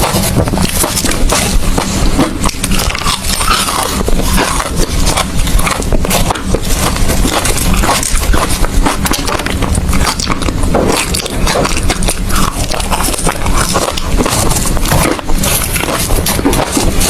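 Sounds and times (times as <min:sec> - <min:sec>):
ice being chewed: 0:00.0 - 0:17.0.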